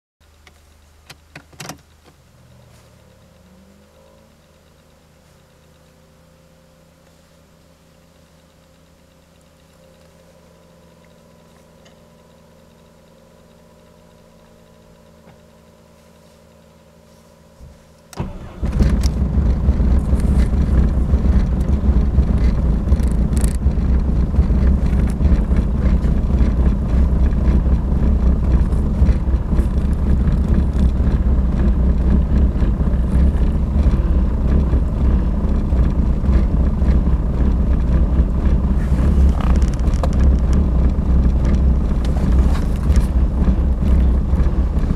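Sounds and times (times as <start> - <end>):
diesel engine cranking and running: 0.2 - 15.9, 17.8 - 44.9
faint steady hum: 0.2 - 44.9.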